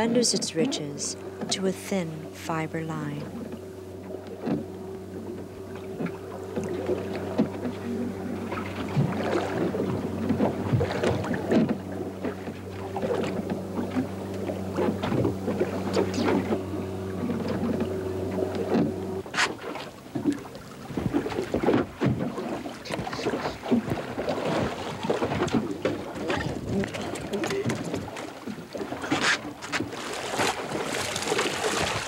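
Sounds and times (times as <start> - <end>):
outboard motor idling: 0.0 - 32.0
knocks and splashes against hull: 4.2 - 32.0.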